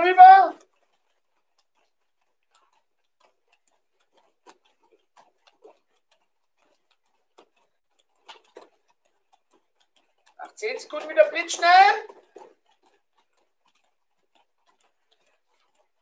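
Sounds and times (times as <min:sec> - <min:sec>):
bare feet tapping on mats: 0:00.0 - 0:16.0.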